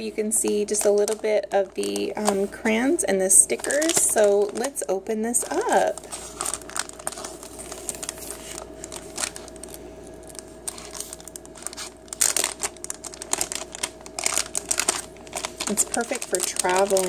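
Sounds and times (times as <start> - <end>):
plastic pouch crinkling and tearing: 0.5 - 2.5, 3.3 - 17.0.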